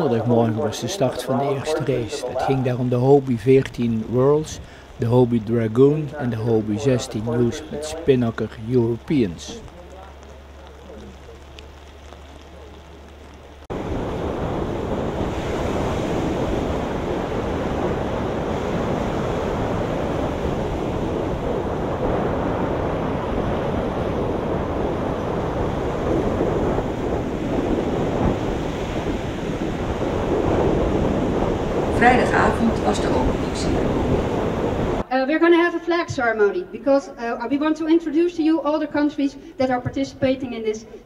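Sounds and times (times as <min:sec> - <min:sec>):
surf: 0:00.0 - 0:38.4
wind: 0:00.0 - 0:41.0.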